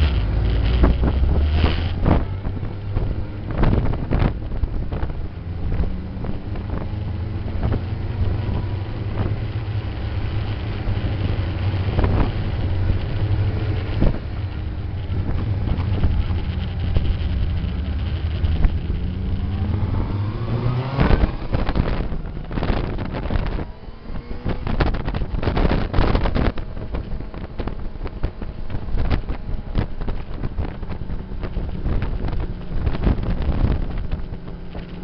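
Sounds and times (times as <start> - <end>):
motorcycle engine running: 0.0 - 35.0
wind on microphone: 0.0 - 35.0.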